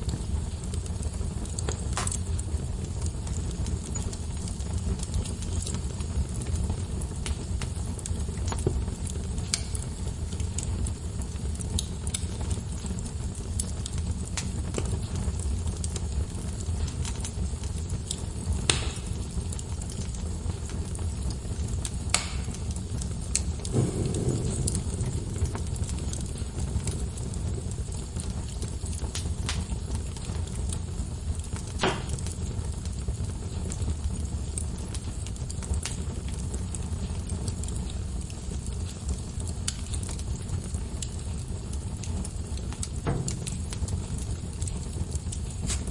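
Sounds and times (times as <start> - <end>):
fire crackles and pops: 0.0 - 45.9
fire flames rumbling: 0.0 - 45.9.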